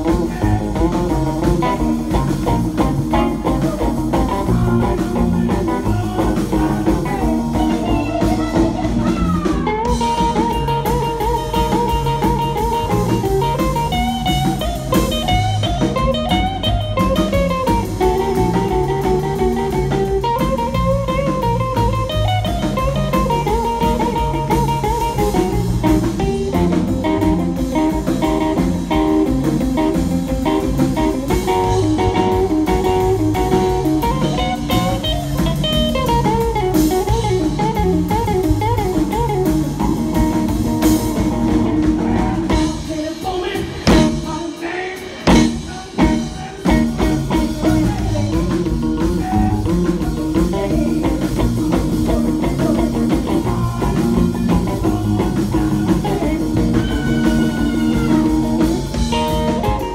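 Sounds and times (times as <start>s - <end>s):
electric guitar lead with bent notes: 0.0s - 44.4s, 45.0s - 59.9s
live blues band: 0.0s - 59.9s.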